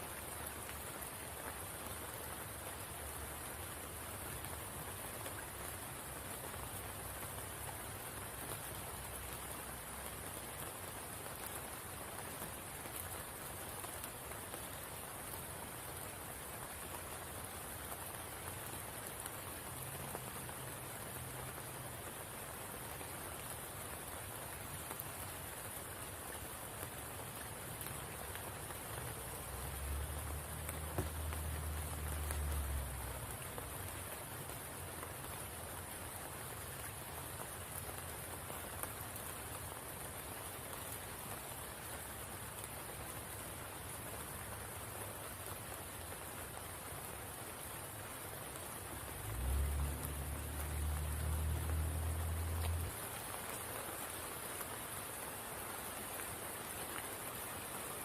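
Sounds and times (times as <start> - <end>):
rain falling on a pool: 0.0 - 58.0.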